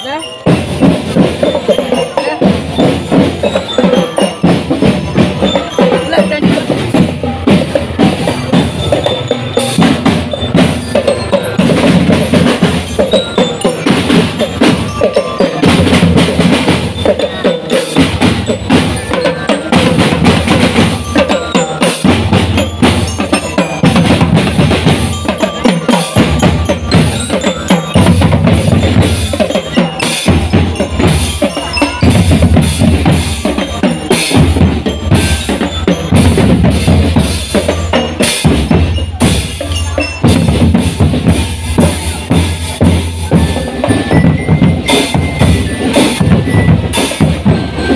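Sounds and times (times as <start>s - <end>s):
marching drum band: 0.0s - 47.9s.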